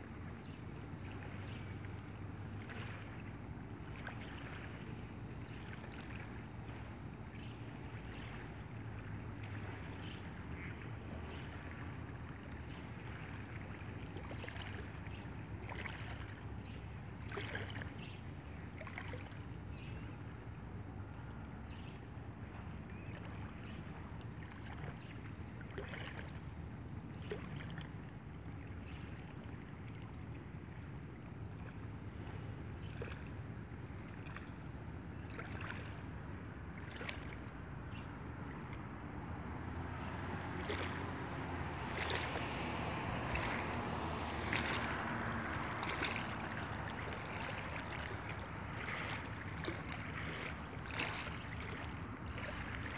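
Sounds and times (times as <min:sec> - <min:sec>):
water lapping and splashing: 0:00.0 - 0:52.9.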